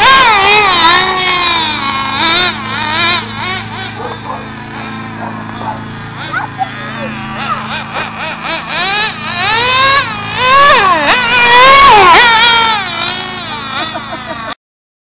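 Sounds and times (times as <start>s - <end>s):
rc car engine revving: 0.0s - 14.6s.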